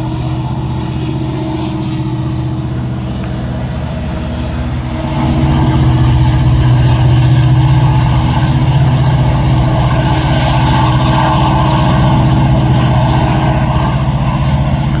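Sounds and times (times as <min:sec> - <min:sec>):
diesel locomotive engine droning: 0:00.0 - 0:15.0.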